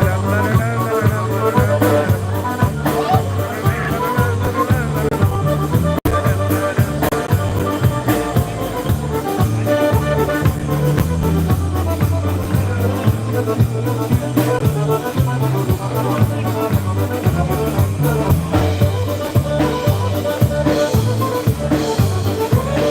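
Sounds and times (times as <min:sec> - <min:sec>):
polka band playing: 0:00.0 - 0:22.9.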